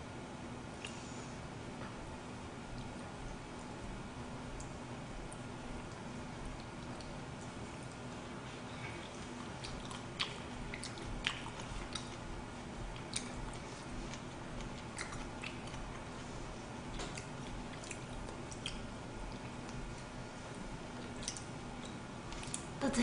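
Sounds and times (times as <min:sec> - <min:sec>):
steady low hum: 0:00.0 - 0:23.0
chewing and mouth sounds: 0:02.6 - 0:22.8.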